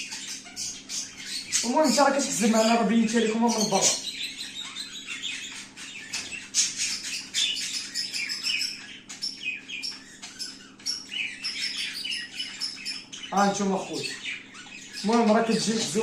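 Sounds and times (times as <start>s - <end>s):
finches chirping: 0.0s - 16.0s.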